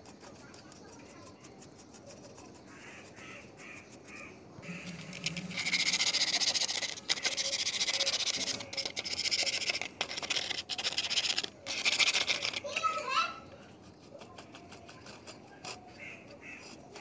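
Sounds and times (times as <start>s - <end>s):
brush scraping rust off metal: 0.0s - 17.0s.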